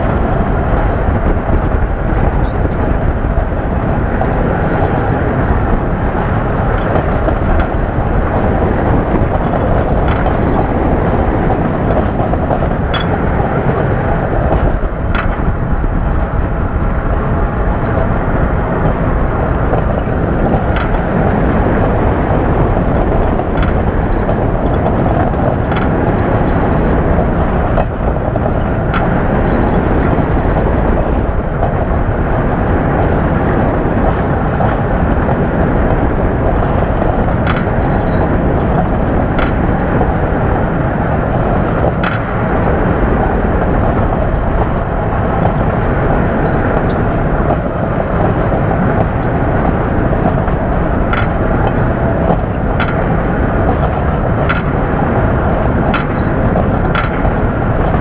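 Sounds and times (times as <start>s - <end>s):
roller coaster train rumbling on track: 0.0s - 58.0s
wind rushing: 0.0s - 58.0s
sharp clacks: 4.1s - 15.6s, 19.7s - 32.0s, 34.0s - 41.0s, 41.6s - 42.8s, 43.6s - 58.0s.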